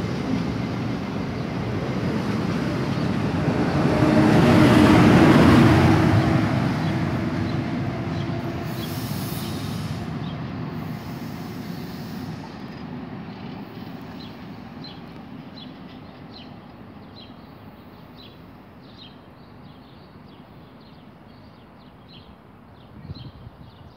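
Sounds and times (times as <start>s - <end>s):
train low rumble pulling away: 0.0s - 23.9s.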